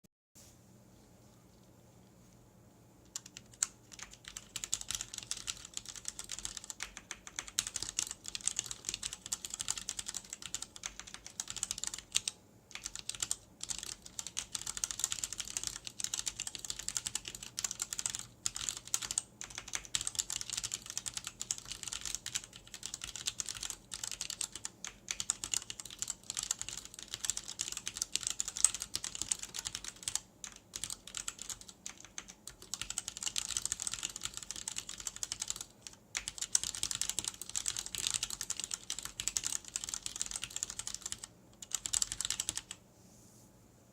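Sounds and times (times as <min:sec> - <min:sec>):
fast typing on keyboard: 0:03.1 - 0:42.8.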